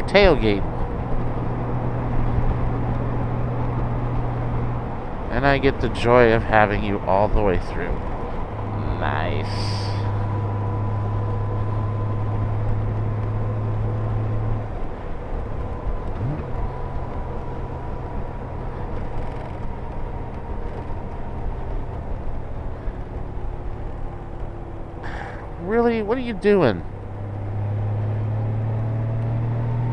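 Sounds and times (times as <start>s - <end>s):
motorcycle engine running: 0.0s - 29.9s
wind and road noise: 0.0s - 29.9s.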